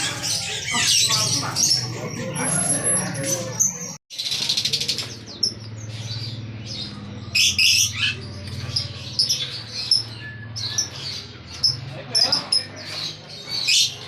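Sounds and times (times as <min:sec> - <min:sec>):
caged songbirds chirping: 0:00.0 - 0:14.0.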